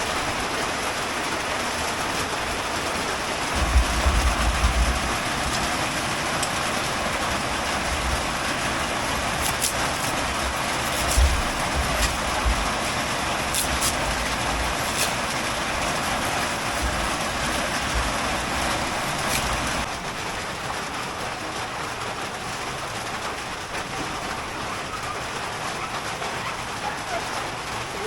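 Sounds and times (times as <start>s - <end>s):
heavy rain hissing: 0.0s - 28.0s
low rumbling: 0.0s - 28.0s.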